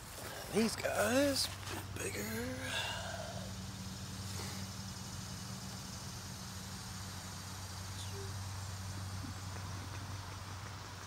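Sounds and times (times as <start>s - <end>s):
faint high hiss: 0.0s - 11.0s
steady low hum: 0.0s - 11.0s.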